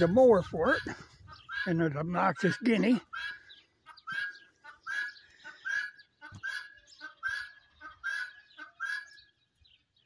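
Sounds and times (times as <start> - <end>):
guinea fowl calling: 0.0 - 9.6.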